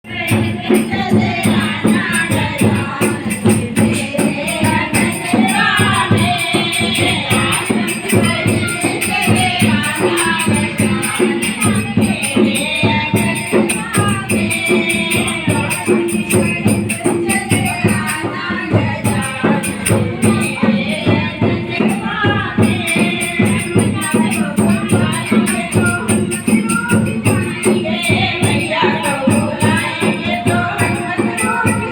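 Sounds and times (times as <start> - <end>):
hand percussion beat: 0.0 - 31.9
devotional singing: 0.1 - 31.9.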